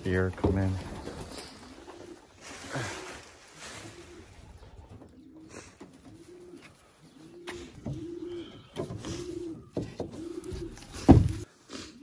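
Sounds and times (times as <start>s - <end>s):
pigeons cooing: 0.8s - 12.0s.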